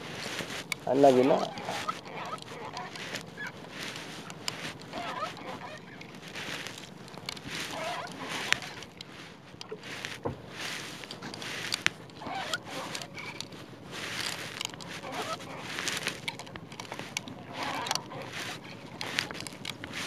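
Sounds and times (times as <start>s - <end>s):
fishing line rustling and scraping: 0.0s - 20.0s
small clicks: 0.0s - 20.0s.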